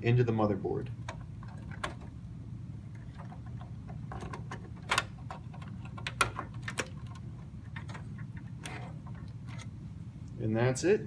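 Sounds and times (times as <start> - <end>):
handling noise: 0.8 - 10.3.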